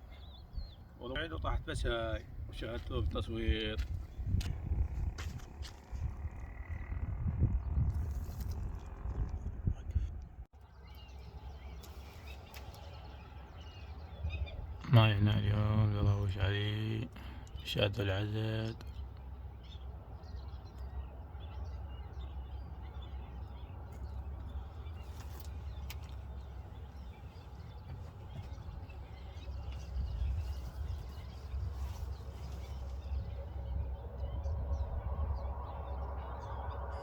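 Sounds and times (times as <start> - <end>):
wind on microphone rumble: 0.2 - 10.5, 11.6 - 14.8, 19.0 - 37.0.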